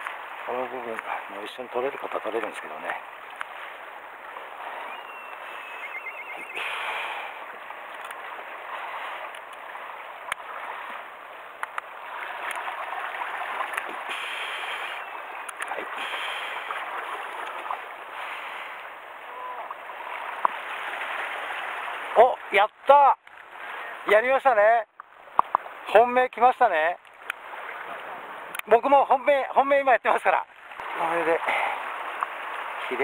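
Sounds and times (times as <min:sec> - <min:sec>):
sea surf against rocks: 0:00.0 - 0:33.0.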